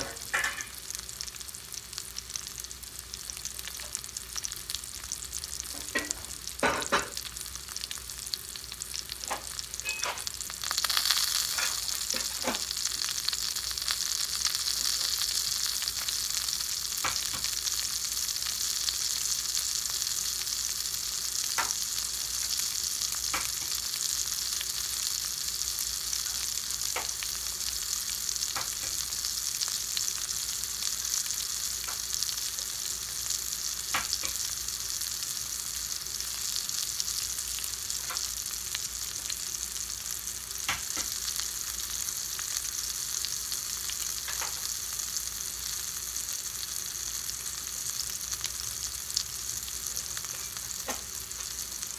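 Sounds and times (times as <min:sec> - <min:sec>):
potatoes sizzling in fat: 0:00.0 - 0:51.9.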